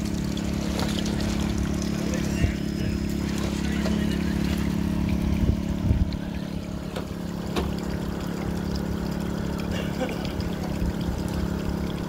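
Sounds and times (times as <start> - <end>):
generator engine humming: 0.0 - 12.0
water splashing and trickling: 0.0 - 12.0.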